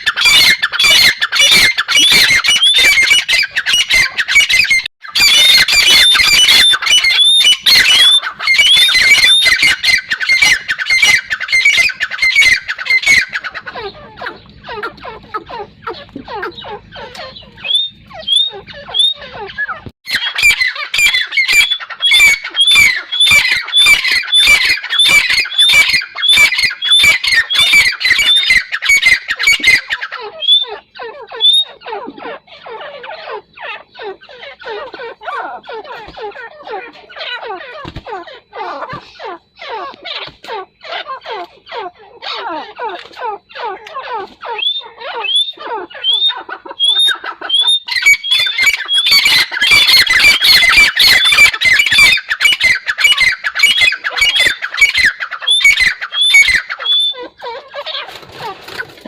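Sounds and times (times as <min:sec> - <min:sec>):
bird calling shrill repeated notes: 0:00.0 - 0:59.0.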